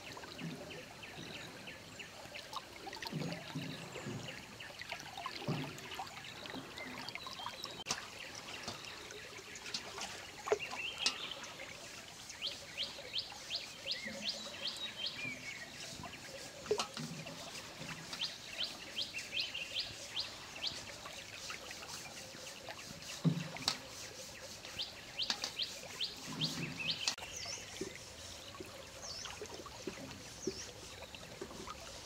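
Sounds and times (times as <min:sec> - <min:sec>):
river water: 0:00.0 - 0:32.0.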